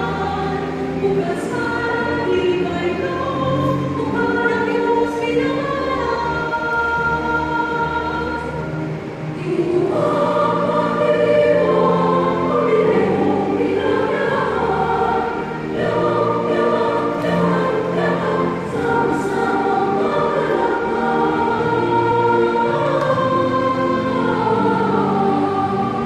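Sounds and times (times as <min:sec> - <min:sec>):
choir and congregation singing hymn: 0:00.0 - 0:26.0.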